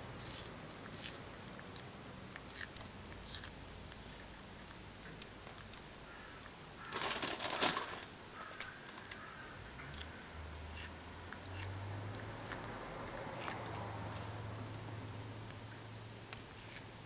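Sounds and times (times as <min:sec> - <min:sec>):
tortoise chewing sprouts: 0:00.0 - 0:06.9, 0:08.4 - 0:15.6.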